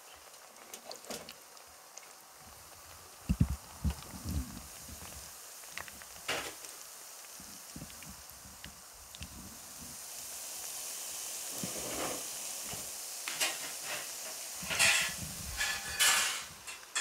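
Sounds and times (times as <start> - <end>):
dough sizzling in hot oil: 0.0 - 17.0
oil crackling bursts: 0.0 - 17.0.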